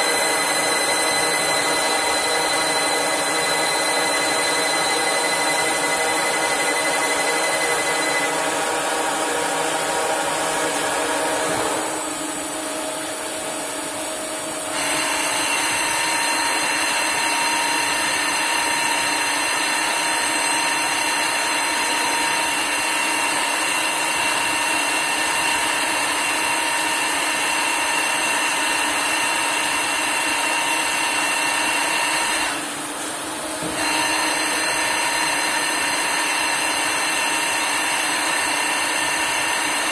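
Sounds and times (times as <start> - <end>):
lathe whining while cutting metal: 0.0 - 39.9.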